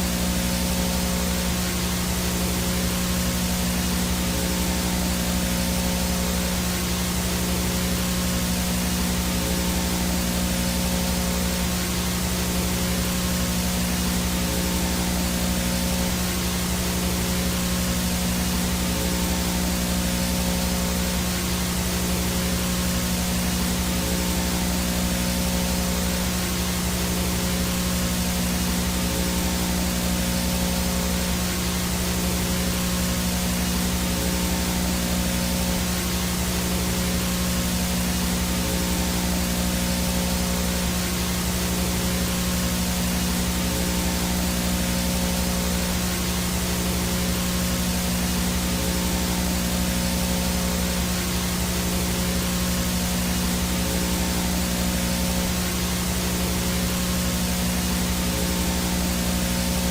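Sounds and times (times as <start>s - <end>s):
low steady hum: 0.0s - 59.9s
static hiss: 0.0s - 59.9s.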